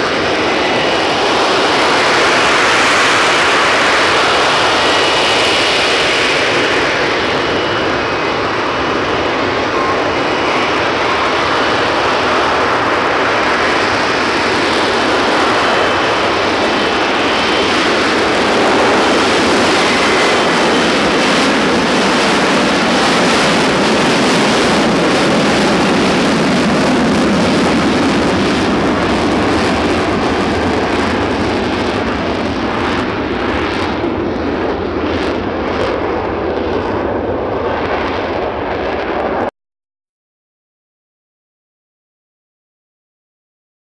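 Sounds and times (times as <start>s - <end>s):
jet engine and lift fan roaring: 0.0s - 39.5s.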